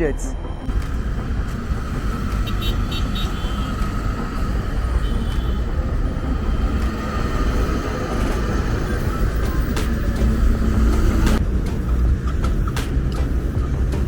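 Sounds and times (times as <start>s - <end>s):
rumble of passing vehicles: 0.1s - 14.0s.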